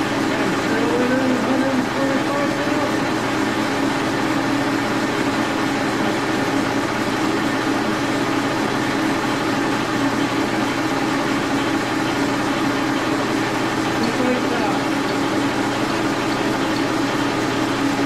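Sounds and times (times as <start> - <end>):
milling machine running: 0.0 - 18.0.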